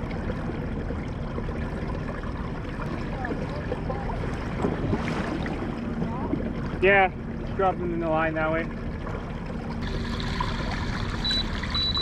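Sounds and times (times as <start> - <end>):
water splashing against hull: 0.0 - 12.0.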